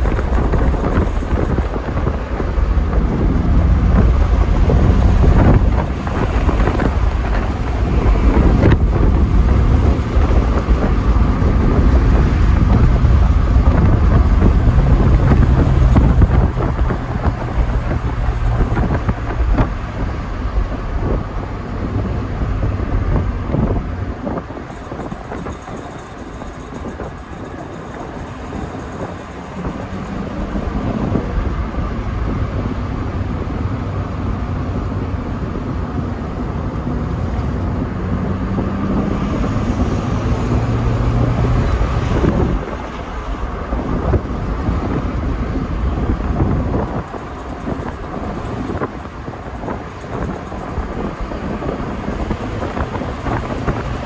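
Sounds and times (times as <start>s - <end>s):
car engine running: 0.0s - 54.0s
tyre and road noise: 0.0s - 54.0s
wind buffeting microphone: 0.0s - 54.0s.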